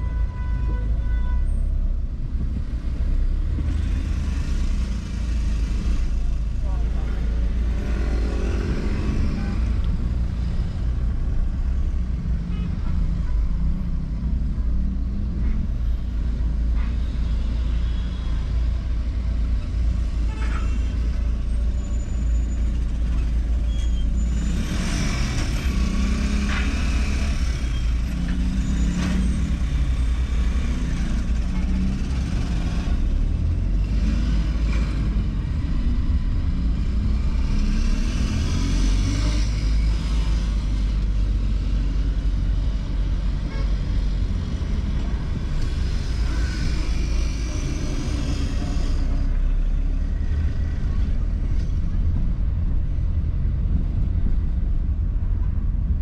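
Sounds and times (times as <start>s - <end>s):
car engine and road noise: 0.0s - 56.0s
vehicles passing: 0.0s - 56.0s.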